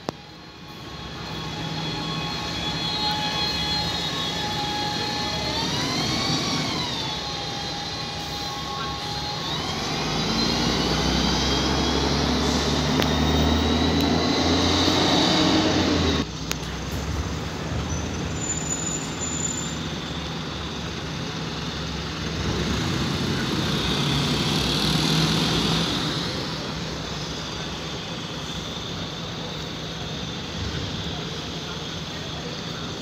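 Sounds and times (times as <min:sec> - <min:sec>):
bus diesel engine passing: 0:00.0 - 0:33.0
road traffic noise: 0:00.0 - 0:33.0.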